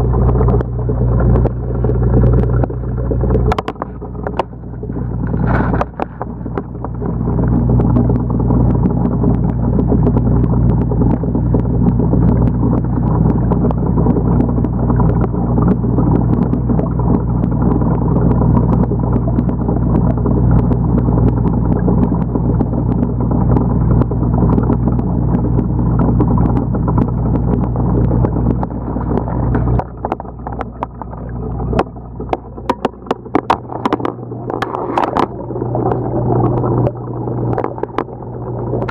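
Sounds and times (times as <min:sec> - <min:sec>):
aquarium pump humming underwater: 0:00.0 - 0:38.9.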